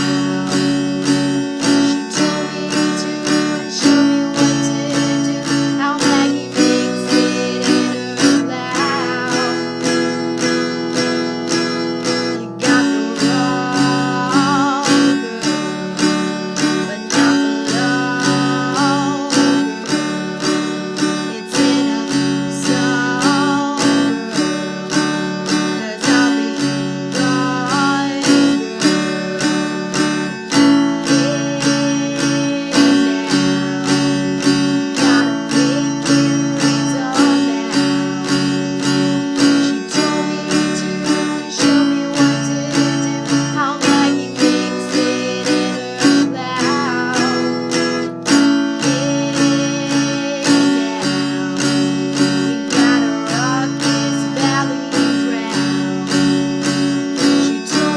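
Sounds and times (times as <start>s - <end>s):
strummed acoustic guitar: 0.0s - 57.9s.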